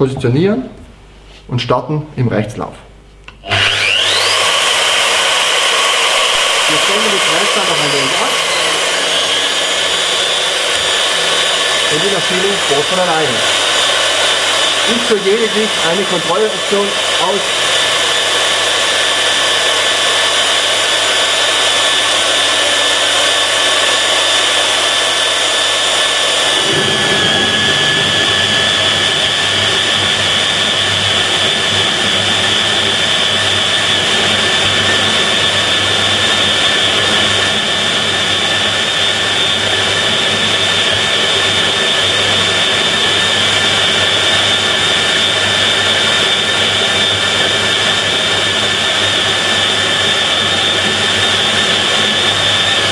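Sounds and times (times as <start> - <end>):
core drill motor whining: 3.3 - 52.9.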